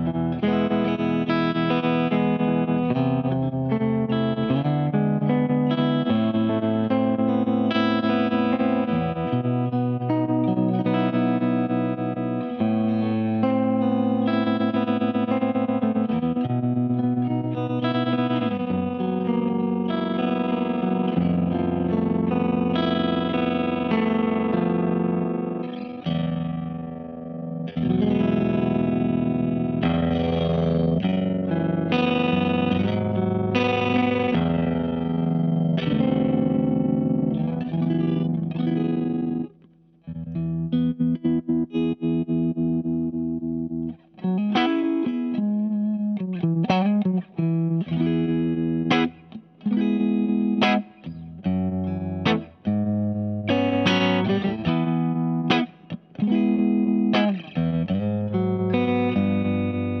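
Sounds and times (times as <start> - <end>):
electric guitar tremolo chords: 0.0 - 60.0.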